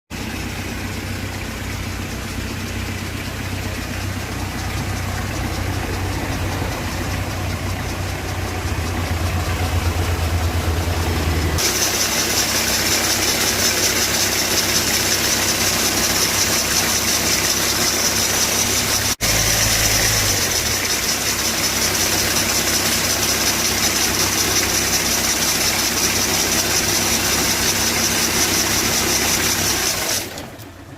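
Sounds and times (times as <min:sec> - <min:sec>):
car engine idling: 0:00.1 - 0:30.9
pulley bearing noise: 0:02.1 - 0:30.3.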